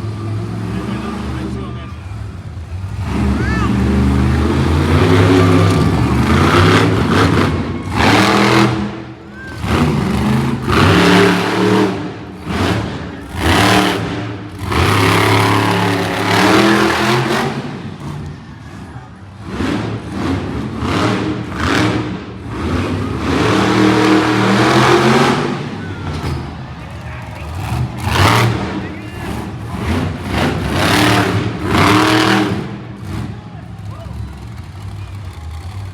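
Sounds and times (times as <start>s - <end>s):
monster truck engine revving: 0.0s - 35.9s.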